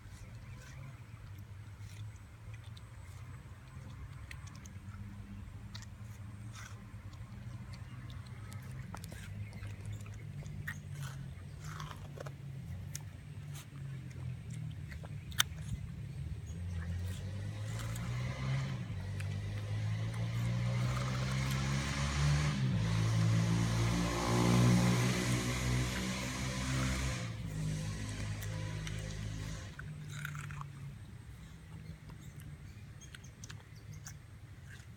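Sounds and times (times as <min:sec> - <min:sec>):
low engine hum: 0:00.0 - 0:34.9
puppy chewing watermelon: 0:00.0 - 0:34.9.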